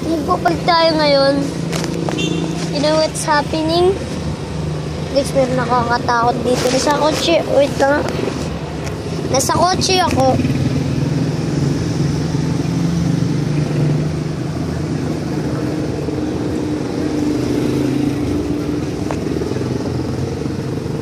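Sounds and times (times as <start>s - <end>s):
street traffic: 0.0s - 21.0s
vehicle engine humming: 0.0s - 21.0s.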